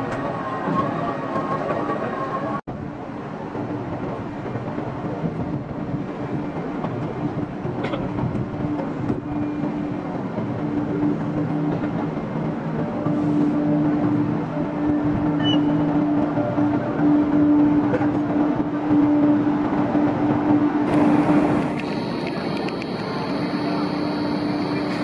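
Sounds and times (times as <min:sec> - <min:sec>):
electric locomotive humming: 0:00.0 - 0:25.0.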